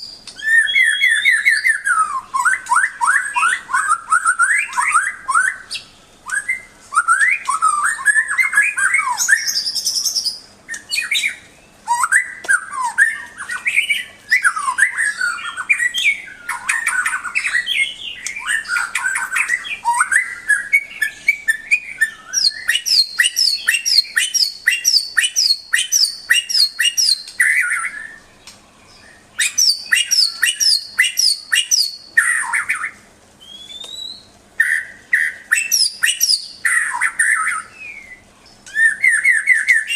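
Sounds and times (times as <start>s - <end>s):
songbird whistling phrases: 0.0s - 39.9s.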